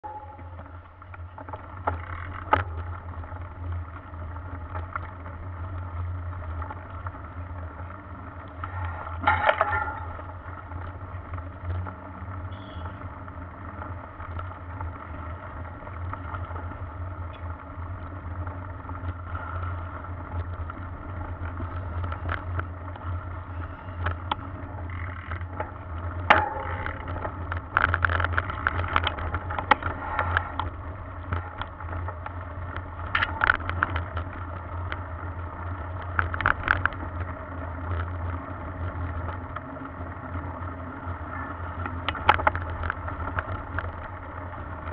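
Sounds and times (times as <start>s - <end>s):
bike low rumble: 0.0s - 44.9s
bike rattling over bumps: 0.0s - 44.9s.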